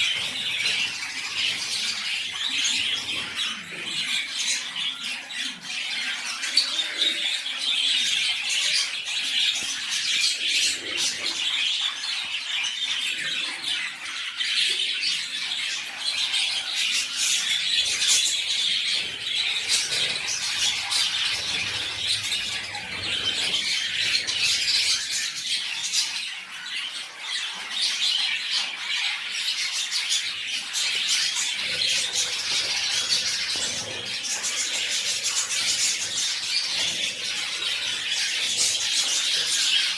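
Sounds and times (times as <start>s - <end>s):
pet birds chirping and squawking: 0.0s - 39.9s.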